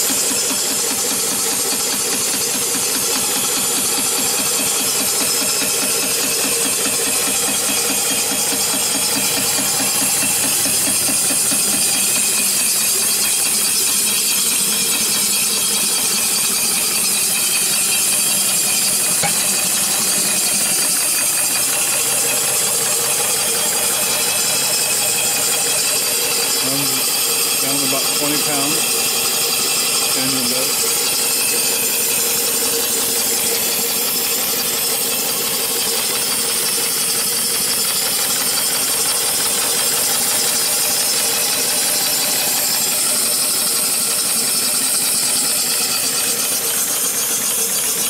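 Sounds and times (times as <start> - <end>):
steam engine exhaust beat: 0.0 - 48.0.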